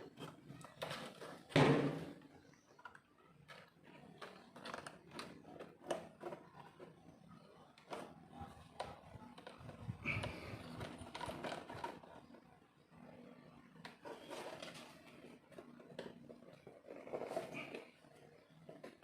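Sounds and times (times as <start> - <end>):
plastic scraping and rattling: 0.0 - 19.0.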